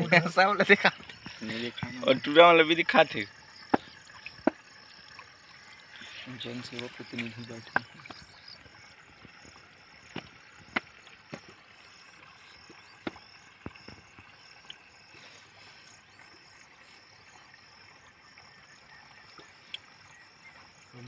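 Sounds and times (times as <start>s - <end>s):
insects chirring: 0.0s - 21.0s
water trickling from bottle: 0.0s - 21.0s.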